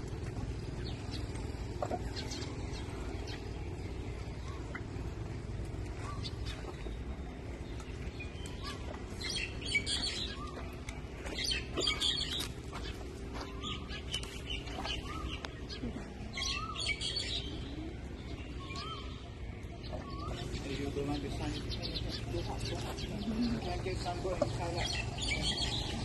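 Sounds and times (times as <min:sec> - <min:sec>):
birds chirping: 0:00.0 - 0:26.0
low background hum: 0:00.0 - 0:26.0.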